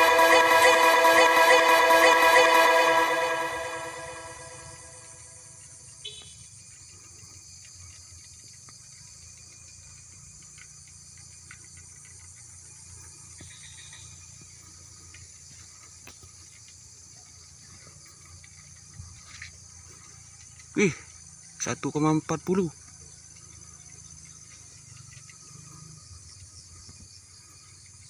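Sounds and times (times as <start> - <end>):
insect chirring: 4.6 - 28.0.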